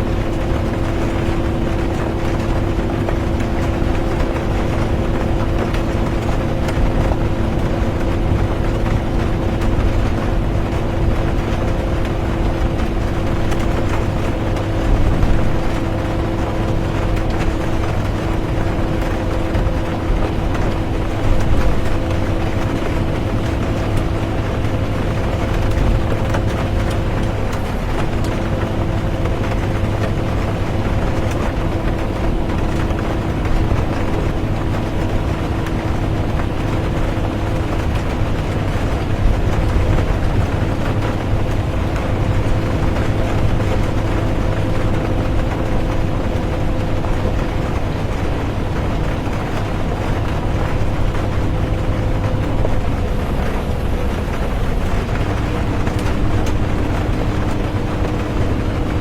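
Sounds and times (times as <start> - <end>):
bus engine and road rumble: 0.0 - 59.0
rain falling on bus: 0.0 - 59.0.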